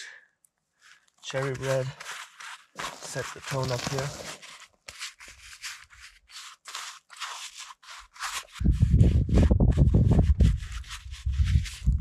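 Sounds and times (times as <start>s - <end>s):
paintbrush scraping: 0.8s - 12.0s.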